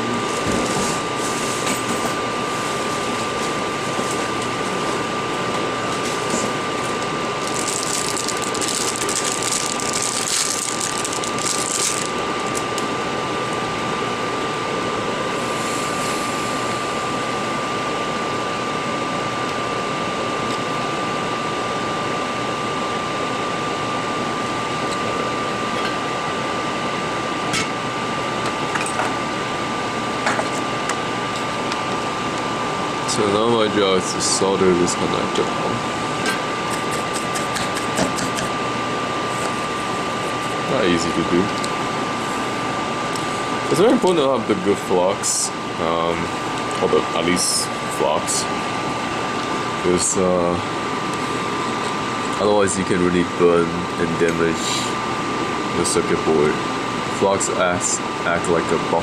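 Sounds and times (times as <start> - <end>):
fan-like machine noise: 0.0 - 59.0
high whine: 0.0 - 59.0.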